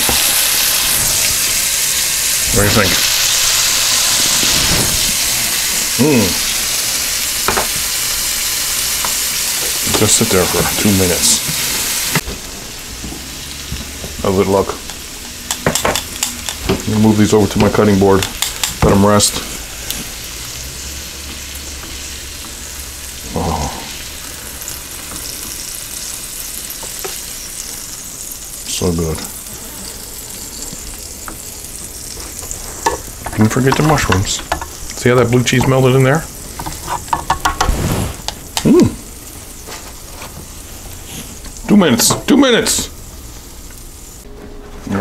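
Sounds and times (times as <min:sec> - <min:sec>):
steaks sizzling on a grill plate: 0:00.0 - 0:44.2.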